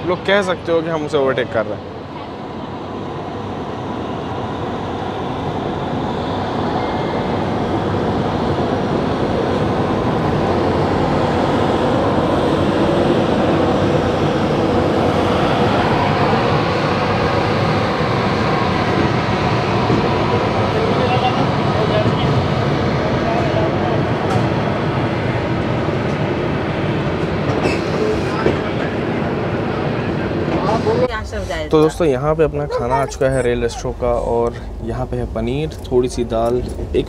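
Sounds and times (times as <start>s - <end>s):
train running on rails: 0.0s - 37.0s.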